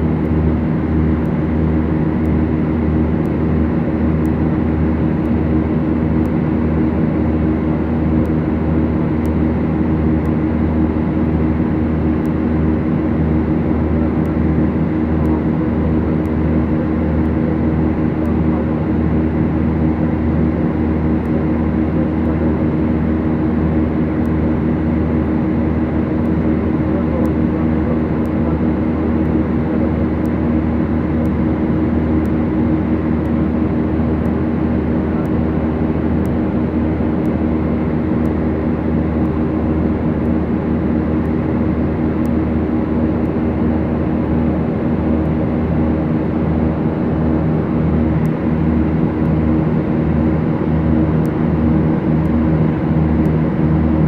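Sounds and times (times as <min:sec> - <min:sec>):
aircraft engines droning: 0:00.0 - 0:54.0.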